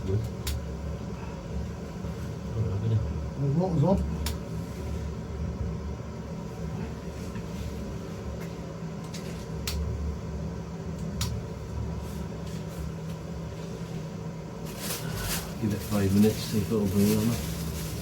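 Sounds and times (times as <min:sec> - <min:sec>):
camping stove burning: 0:00.0 - 0:18.0.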